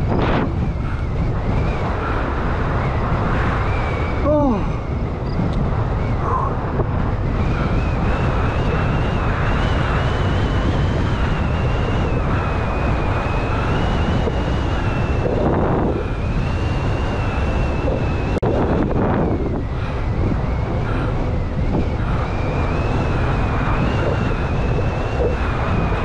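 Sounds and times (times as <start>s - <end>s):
high wavering whine: 0.0s - 26.0s
wind buffeting microphone: 0.0s - 26.0s.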